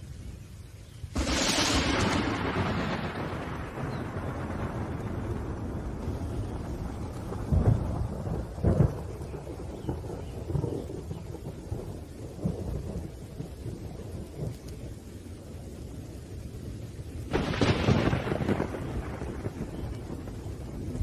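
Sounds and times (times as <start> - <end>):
rain: 0.0 - 21.0
rolling thunder: 1.1 - 21.0
loud thunderclap: 1.2 - 14.6, 17.3 - 21.0.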